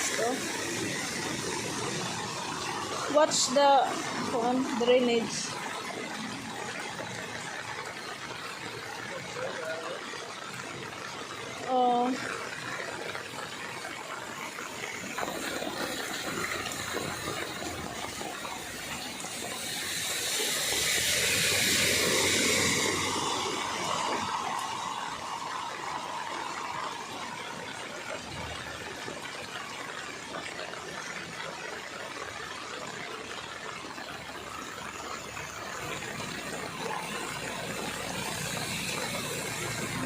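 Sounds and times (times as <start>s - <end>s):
floodwater rushing down a drain: 0.0s - 40.0s.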